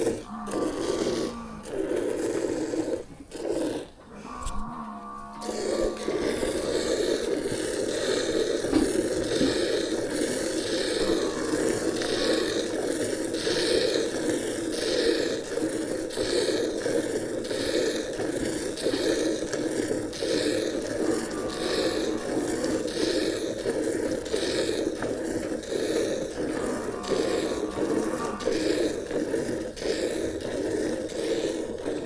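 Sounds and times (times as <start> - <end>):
milk squirting into a pail: 0.0 - 32.0.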